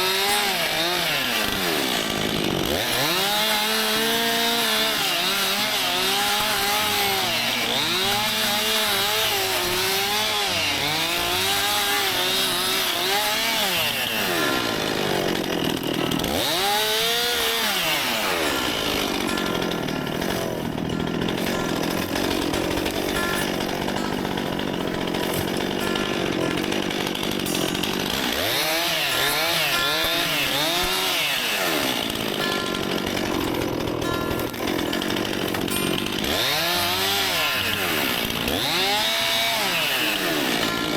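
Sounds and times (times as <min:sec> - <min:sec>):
chainsaw cutting wood: 0:00.0 - 0:40.9
chainsaw revving: 0:00.0 - 0:40.9.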